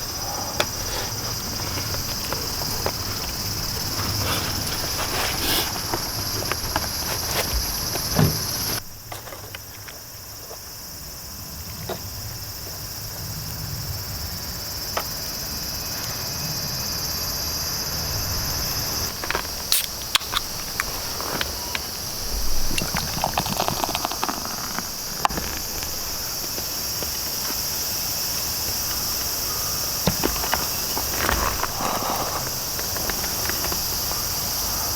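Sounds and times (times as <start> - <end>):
insect chorus shrilling: 0.0 - 34.9.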